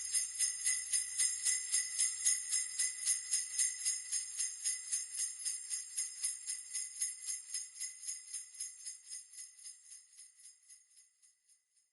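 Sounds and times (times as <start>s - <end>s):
sleigh bells shaken: 0.0s - 11.1s.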